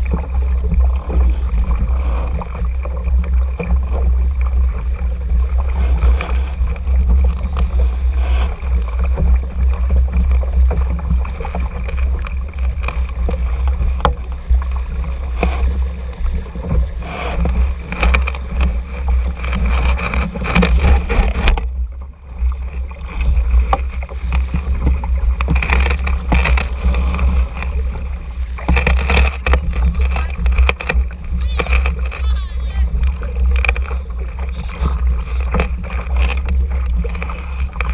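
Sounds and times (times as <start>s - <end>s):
water splashing along hull: 0.0s - 37.9s
wind rumble on microphone: 0.0s - 37.9s.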